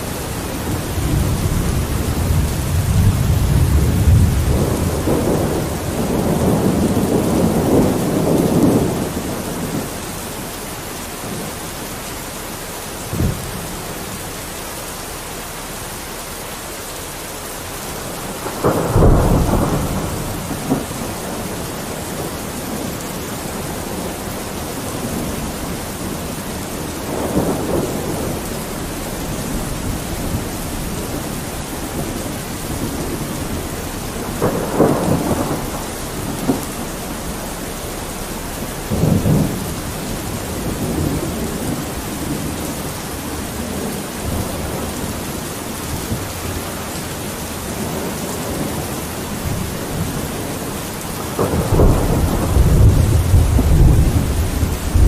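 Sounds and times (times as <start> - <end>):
thunder rumbles and claps: 0.0 - 11.9, 13.0 - 14.2, 17.8 - 55.0
rain hiss: 0.0 - 55.0.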